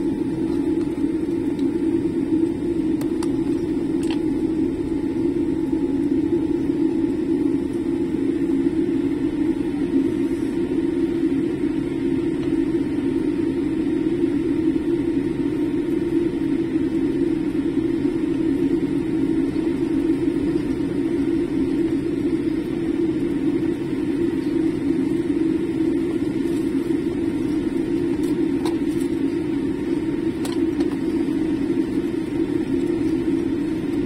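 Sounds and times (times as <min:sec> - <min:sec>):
airplane cabin rumble while taxiing: 0:00.0 - 0:34.0.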